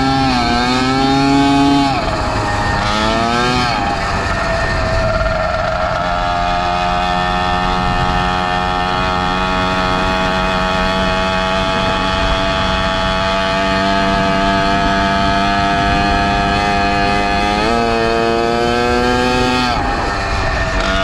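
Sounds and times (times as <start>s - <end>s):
small two-stroke engine running: 0.0s - 21.0s.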